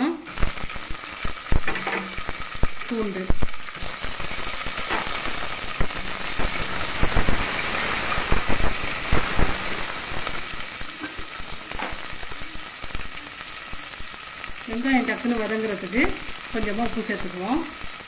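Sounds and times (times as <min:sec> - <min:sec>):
shallots sizzling in hot oil: 0:00.0 - 0:18.0.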